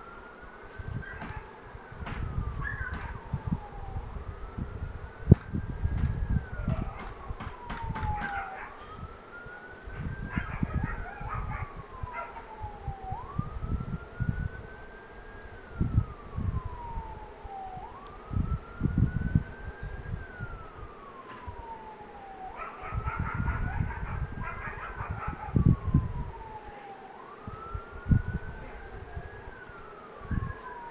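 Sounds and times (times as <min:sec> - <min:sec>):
emergency vehicle siren wailing: 0:00.0 - 0:30.9.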